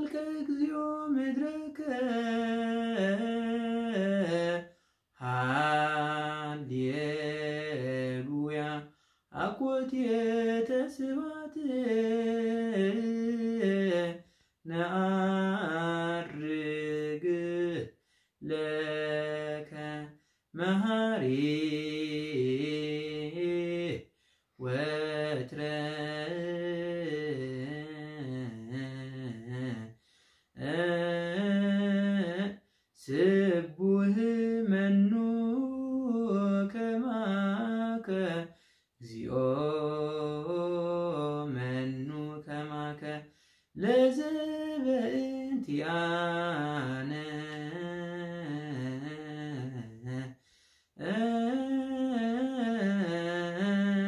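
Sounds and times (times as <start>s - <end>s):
man singing a hymn unaccompanied: 0.0s - 54.0s.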